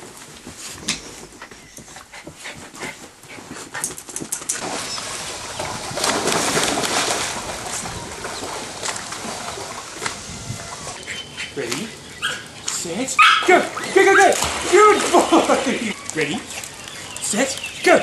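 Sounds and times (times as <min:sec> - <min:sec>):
dogs splashing in pool: 0:02.0 - 0:18.0.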